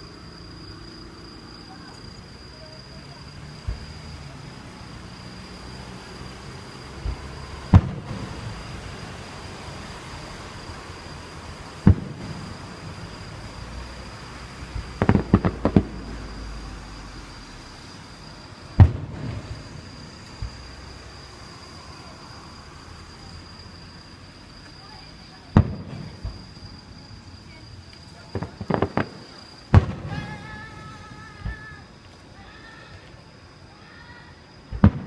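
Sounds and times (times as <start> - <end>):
crackling firework reports: 0.0 - 35.0
insect chirring: 0.0 - 35.0
fireworks booming: 1.6 - 23.4, 24.8 - 32.6, 34.6 - 35.0.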